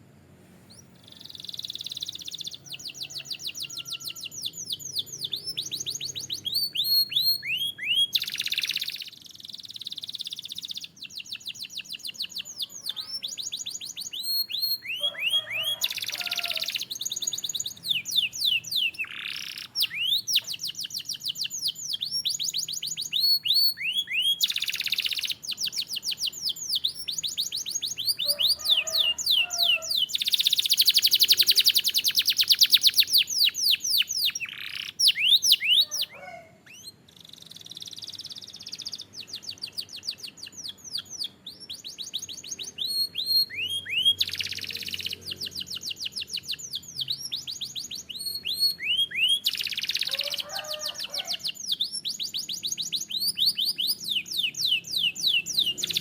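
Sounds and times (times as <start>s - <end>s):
canary singing trills: 0.6s - 56.0s.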